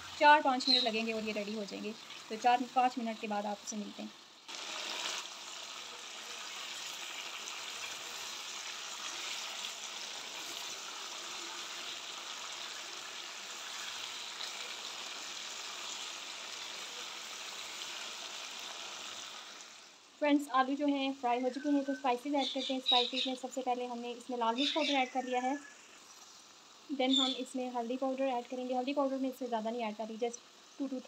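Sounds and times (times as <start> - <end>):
potato slices sizzling in oil: 0.0 - 31.0.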